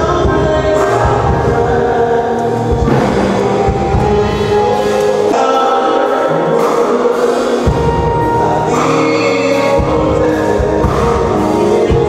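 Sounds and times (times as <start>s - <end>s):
choir singing with instruments: 0.0s - 12.0s.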